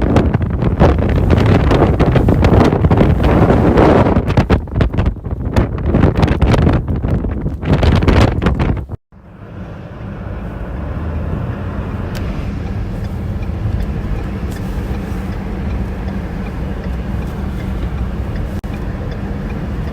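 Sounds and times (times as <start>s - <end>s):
steady low rumble: 0.0s - 19.9s
wind gusting on microphone: 0.0s - 19.9s.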